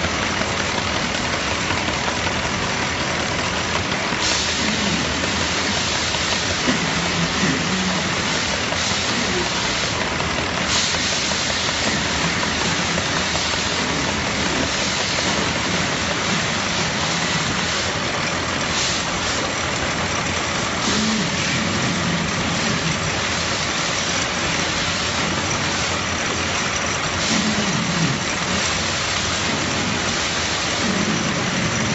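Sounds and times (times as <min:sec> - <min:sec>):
production line machinery running: 0:00.0 - 0:31.9.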